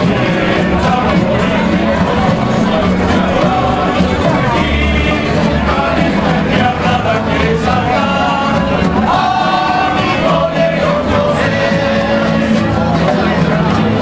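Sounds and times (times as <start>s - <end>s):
guitars and mandolins strumming: 0.0s - 14.0s
men singing in chorus: 0.0s - 14.0s.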